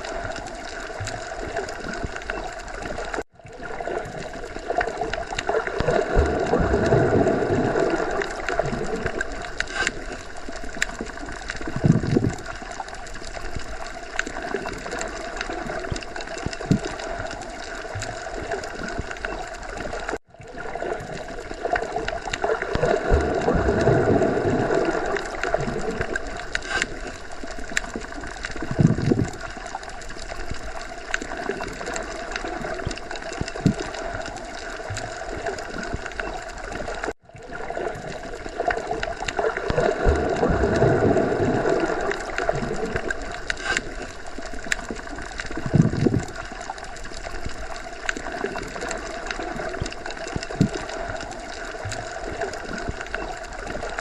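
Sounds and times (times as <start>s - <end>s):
muffled underwater water wash: 0.0s - 54.0s.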